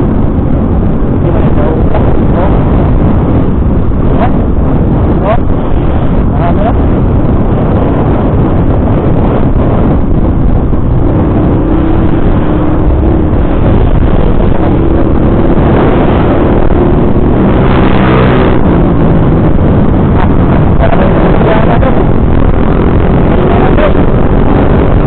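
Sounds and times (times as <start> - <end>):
motorcycle engine: 0.0 - 25.0
wind rush on microphone: 0.0 - 25.0.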